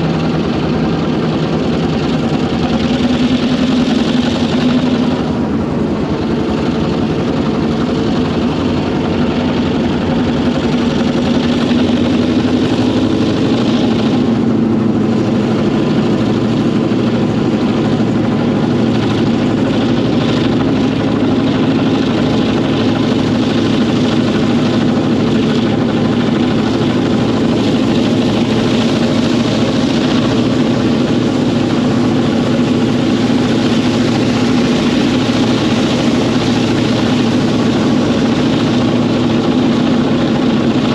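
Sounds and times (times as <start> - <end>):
diesel locomotive engine droning: 0.0 - 40.9.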